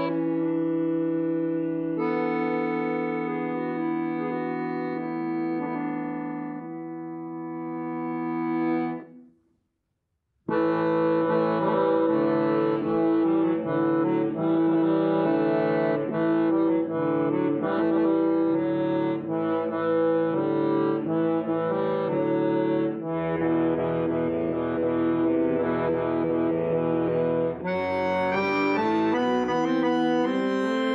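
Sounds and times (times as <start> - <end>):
accordion playing: 0.0 - 9.2, 10.5 - 30.9.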